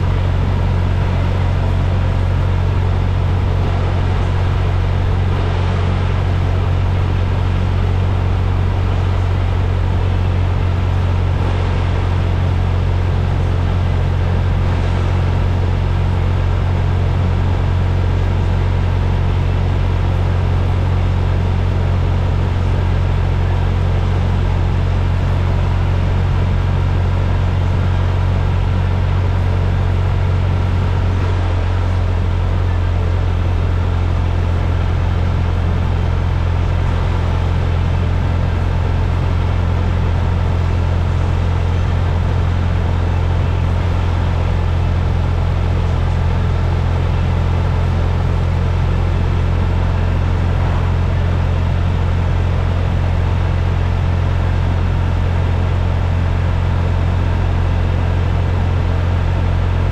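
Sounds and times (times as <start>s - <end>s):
low drone: 0.0s - 59.9s.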